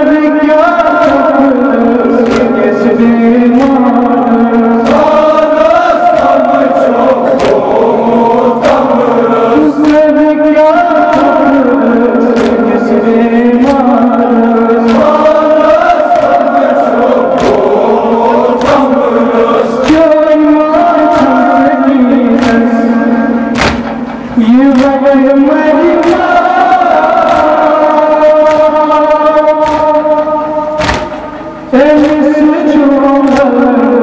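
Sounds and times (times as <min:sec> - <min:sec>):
men chanting a lament: 0:00.0 - 0:34.0
rhythmic chest-beating strikes: 0:00.0 - 0:34.0.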